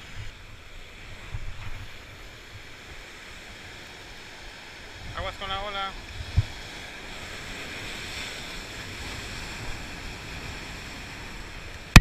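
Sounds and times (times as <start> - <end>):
sea waves washing over rocks: 0.0 - 12.0.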